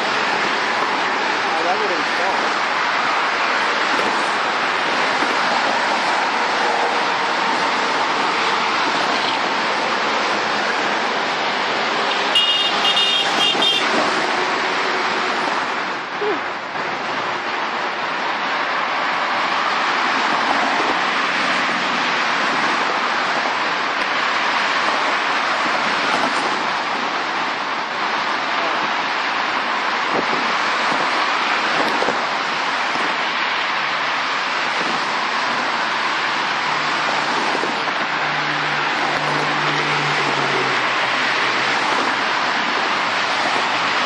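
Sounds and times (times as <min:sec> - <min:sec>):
freeway traffic roar: 0:00.0 - 0:44.0.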